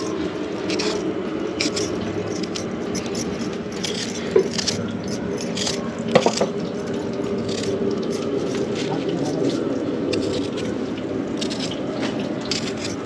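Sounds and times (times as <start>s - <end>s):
metal utensils clinking: 0.0s - 13.0s
scraping vegetables: 0.0s - 13.0s
steady low hum: 0.0s - 13.0s.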